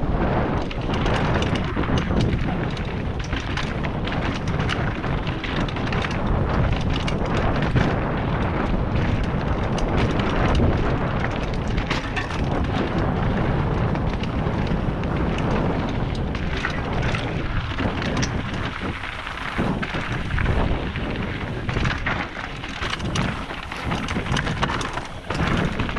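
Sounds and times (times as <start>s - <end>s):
bike rattling over rocks: 0.0s - 25.9s
bike tyres crunching over gravel: 0.0s - 25.9s
wind on microphone: 0.0s - 25.9s.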